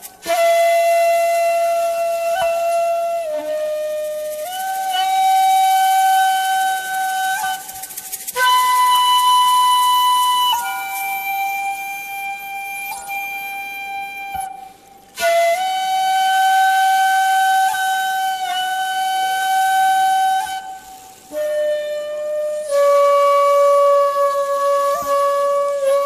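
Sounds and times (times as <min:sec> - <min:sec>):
shakuhachi long held notes: 0:00.0 - 0:26.0.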